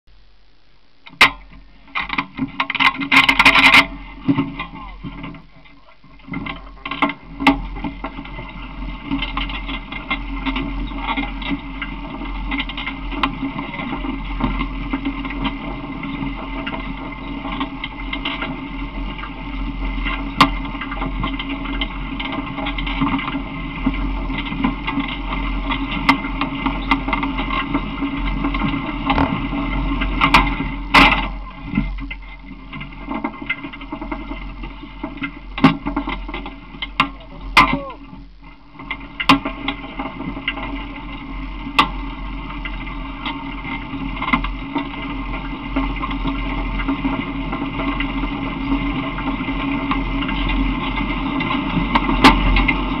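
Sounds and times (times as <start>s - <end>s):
vehicle rattles and knocks: 6.2s - 37.7s, 38.8s - 53.0s.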